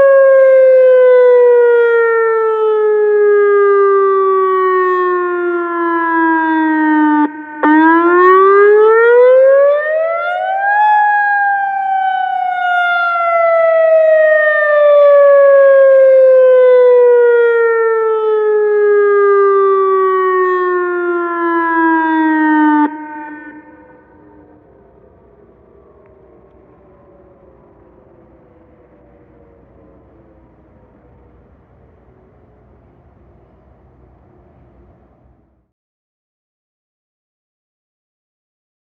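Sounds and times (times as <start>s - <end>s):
warning siren wailing: 0.0s - 35.6s.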